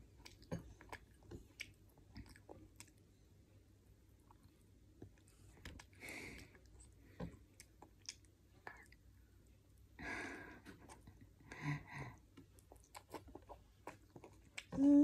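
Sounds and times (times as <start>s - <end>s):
child chewing cereal: 0.0s - 15.0s.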